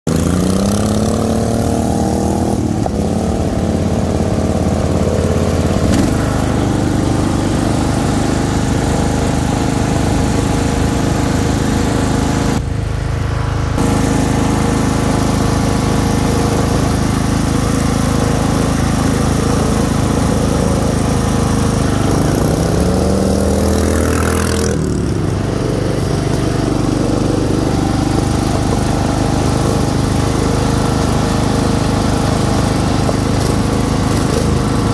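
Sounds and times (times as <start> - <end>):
lawn tractor engine revving: 0.1 - 34.9.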